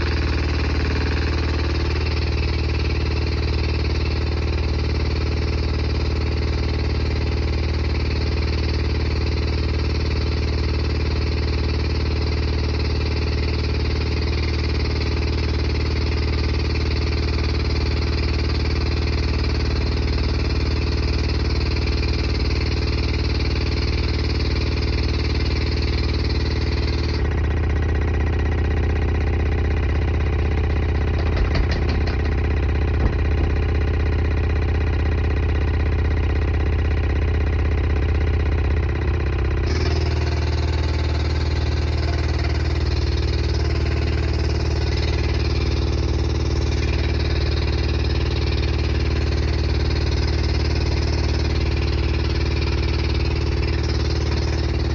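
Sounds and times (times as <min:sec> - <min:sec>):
pump motor hum: 0:00.0 - 0:54.9.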